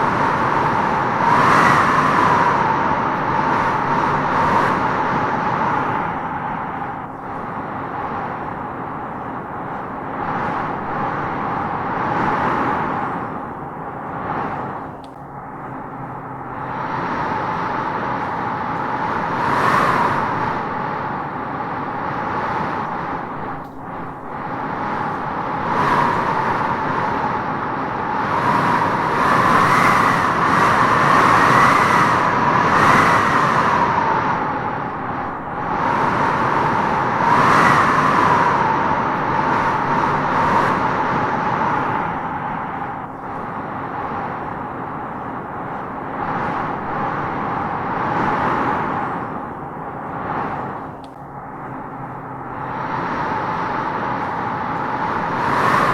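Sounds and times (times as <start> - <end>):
howling wind through trees: 0.0 - 55.9.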